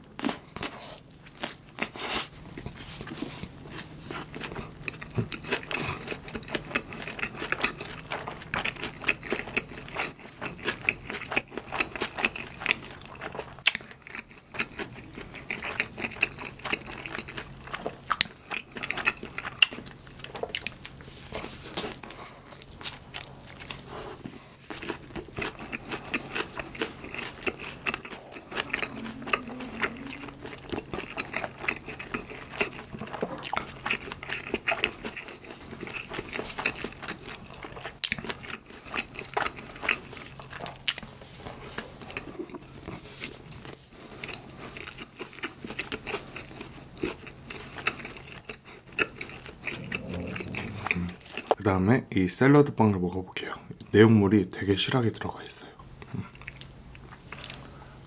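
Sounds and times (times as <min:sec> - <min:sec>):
chewing and biting bread: 0:00.1 - 0:51.6, 0:56.0 - 0:57.9.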